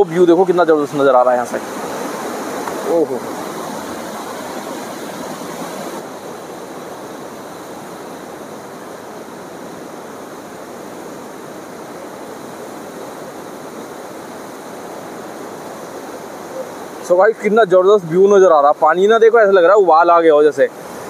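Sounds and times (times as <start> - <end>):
rushing churning water: 0.0 - 21.0.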